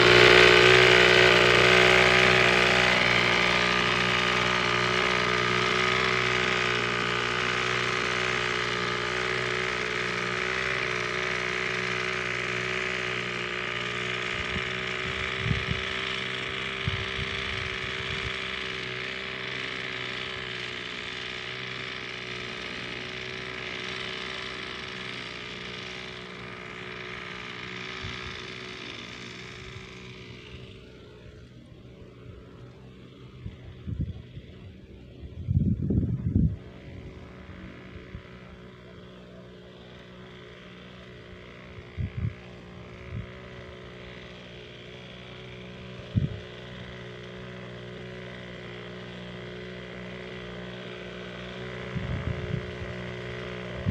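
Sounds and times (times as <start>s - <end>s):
two-stroke sprayer engine running: 0.0s - 53.9s.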